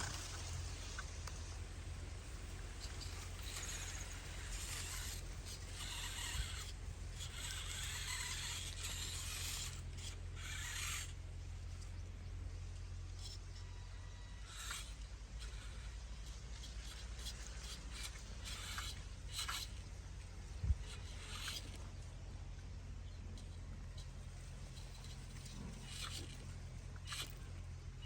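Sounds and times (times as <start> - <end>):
soil scraping and rustling: 0.0 - 12.1, 12.8 - 28.0
toy tractor motor hum: 0.0 - 28.0.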